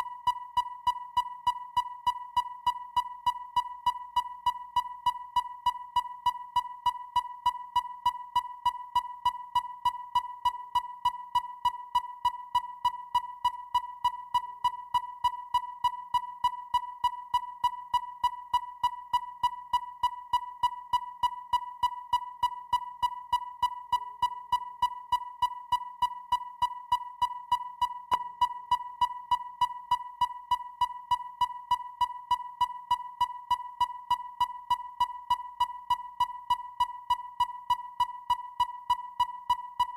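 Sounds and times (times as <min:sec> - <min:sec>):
rapid sonar beeps: 0:00.0 - 0:39.9.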